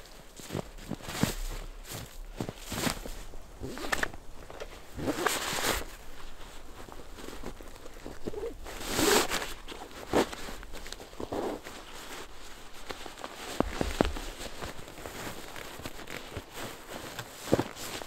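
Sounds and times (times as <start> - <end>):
boots crunching on snow: 0.0 - 18.0
fabric bag rustling: 0.0 - 18.0.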